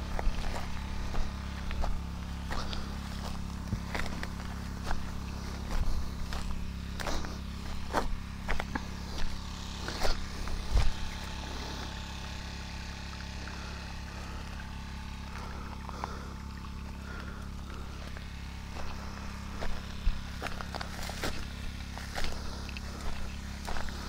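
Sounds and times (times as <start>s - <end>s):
footsteps on dry grass and stones: 0.0s - 24.0s
water pump engine running: 0.0s - 24.0s.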